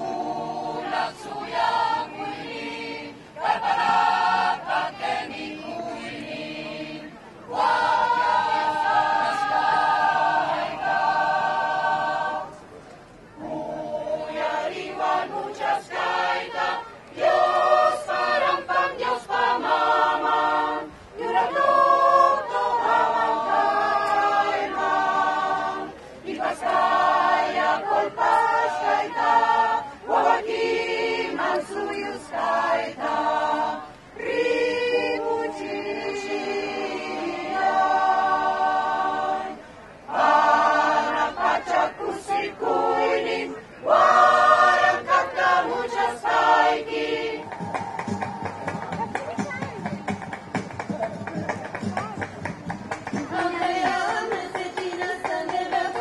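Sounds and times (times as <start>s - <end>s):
choir singing unaccompanied: 0.0s - 12.7s, 13.3s - 51.4s, 52.4s - 56.0s.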